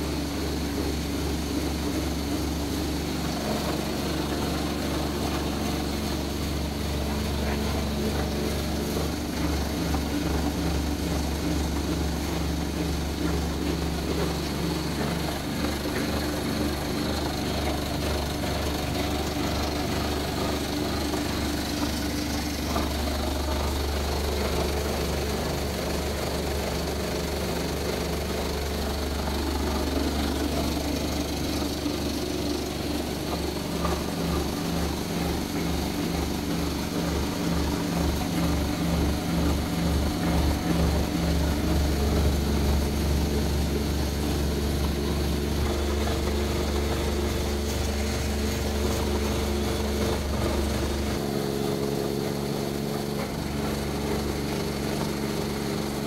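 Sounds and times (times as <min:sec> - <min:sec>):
low machinery hum: 0:00.0 - 0:56.0
mixer stirring powdered feed: 0:00.0 - 0:56.0.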